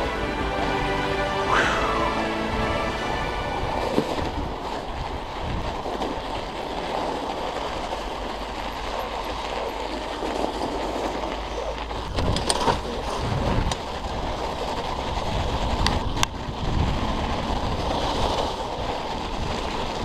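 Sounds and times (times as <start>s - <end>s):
tyres rumbling on snow: 0.0s - 20.0s
bike rattling: 3.8s - 20.0s.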